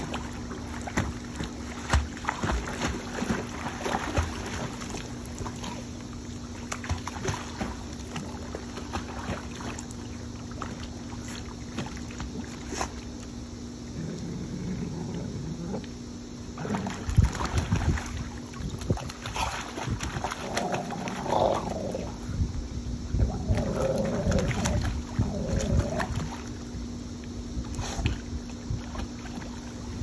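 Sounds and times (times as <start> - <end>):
dogs splashing in water: 0.0 - 13.4, 16.5 - 22.2, 23.2 - 26.9, 27.6 - 30.0
steady low hum: 0.0 - 30.0.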